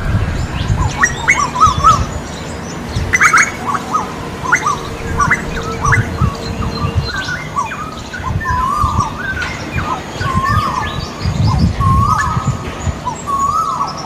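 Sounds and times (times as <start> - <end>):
low rumble: 0.0 - 13.1
small birds chirping: 0.0 - 14.0
koel calling: 0.8 - 14.0.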